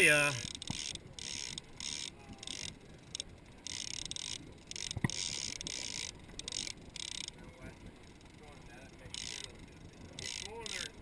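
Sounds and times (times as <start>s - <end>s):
fishing reel gears whirring: 0.0s - 11.0s.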